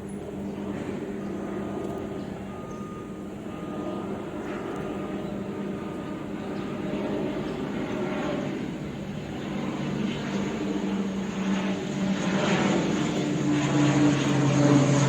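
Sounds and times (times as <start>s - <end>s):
turboprop engines droning: 0.0s - 15.0s
thin engine whine: 1.7s - 15.0s.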